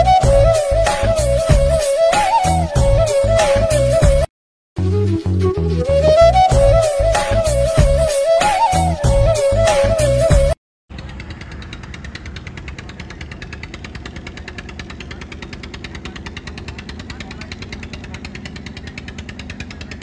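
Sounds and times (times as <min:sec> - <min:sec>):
boat engine chugging: 0:00.0 - 0:04.3, 0:05.7 - 0:20.0.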